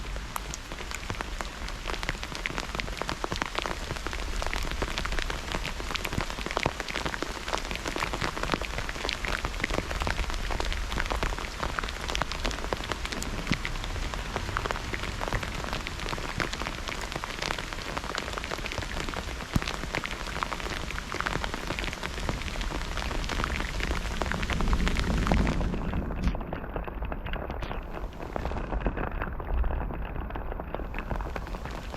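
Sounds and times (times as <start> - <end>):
rain hiss: 0.0 - 31.9
raindrops hitting hard surface: 0.0 - 31.9.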